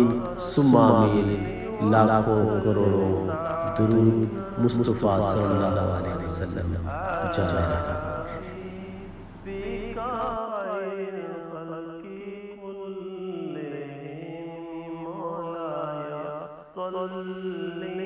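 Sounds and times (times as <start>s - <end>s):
person chanting: 0.0s - 18.0s.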